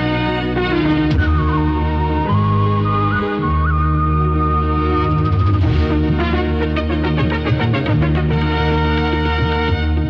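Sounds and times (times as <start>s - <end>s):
instrumental intro music: 0.0s - 10.0s.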